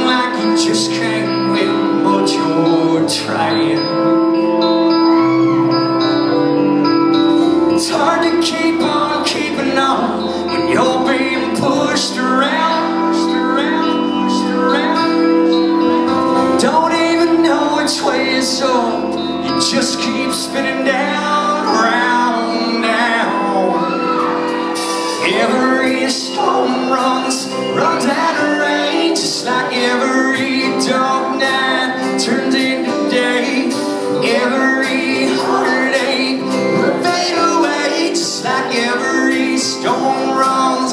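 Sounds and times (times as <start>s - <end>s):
live country band: 0.0s - 40.9s.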